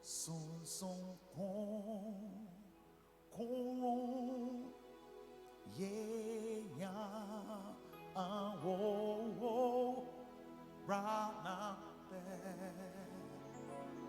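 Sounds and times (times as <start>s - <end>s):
person singing worship song: 0.0s - 14.0s.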